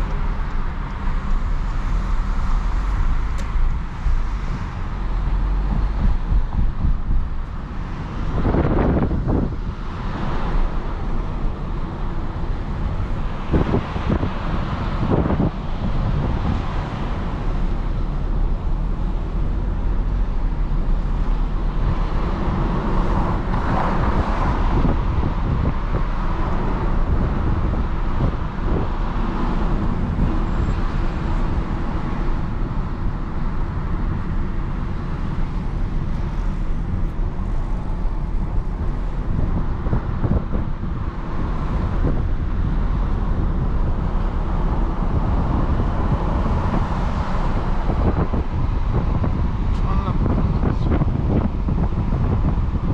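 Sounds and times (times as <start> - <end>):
car interior road noise: 0.0 - 52.9.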